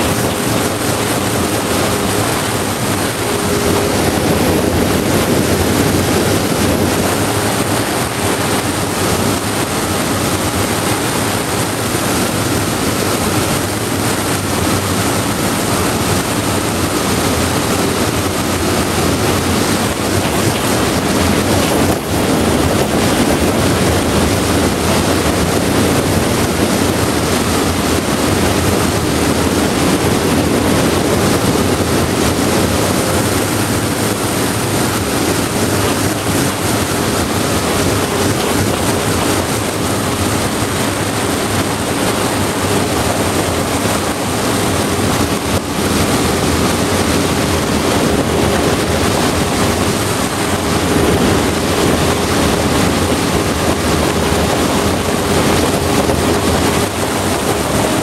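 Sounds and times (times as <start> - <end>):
boat motor drone: 0.0 - 58.0
rushing water: 0.0 - 58.0
wind buffeting microphone: 0.0 - 58.0.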